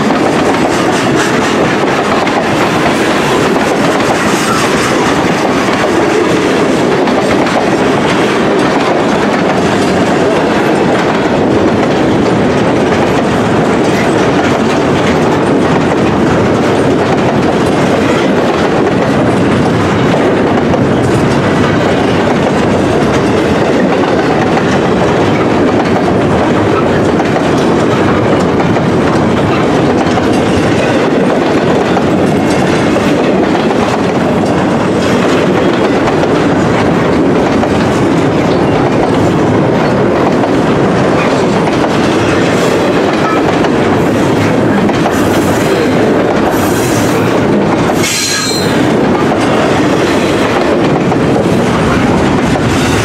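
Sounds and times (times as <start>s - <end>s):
freight train rumbling past: 0.0s - 53.0s
wheels clacking over rail joints: 0.0s - 53.0s.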